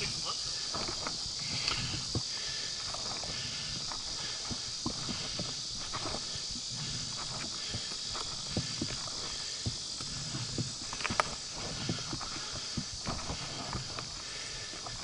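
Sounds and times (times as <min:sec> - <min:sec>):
footsteps on gravelly trail: 0:00.0 - 0:15.0
insects droning: 0:00.0 - 0:15.0.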